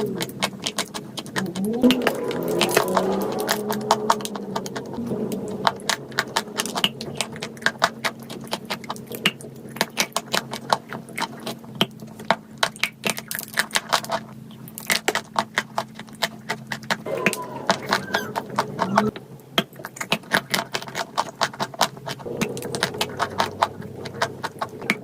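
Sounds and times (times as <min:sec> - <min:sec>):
dry clay crunching and crackling: 0:00.0 - 0:25.0.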